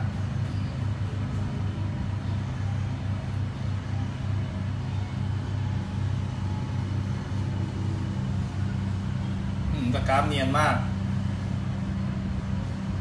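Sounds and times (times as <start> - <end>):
low machine rumble: 0.0 - 13.0.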